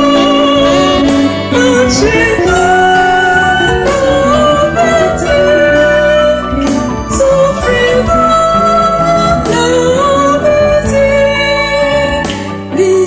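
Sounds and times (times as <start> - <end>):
instrumental backing music: 0.0 - 13.0
woman singing gospel song: 0.0 - 13.0.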